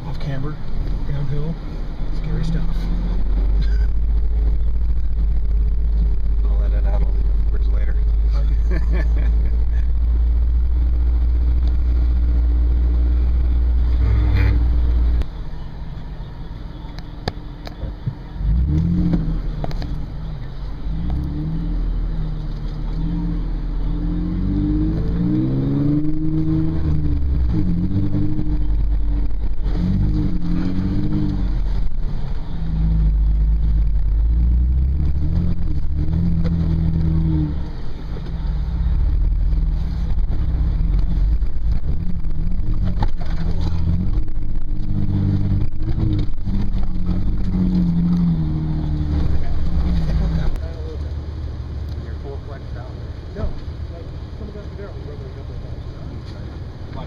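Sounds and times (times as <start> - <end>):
engine revving inside cabin: 0.0 - 57.0.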